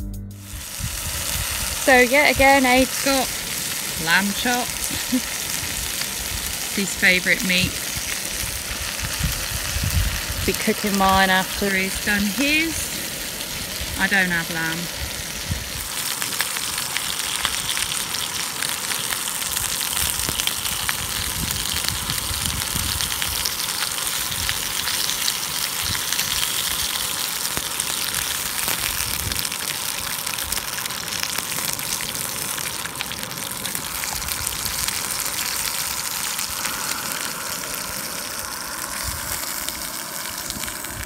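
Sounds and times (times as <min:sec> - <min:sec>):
meat sizzling in frying pan: 0:00.4 - 0:41.0.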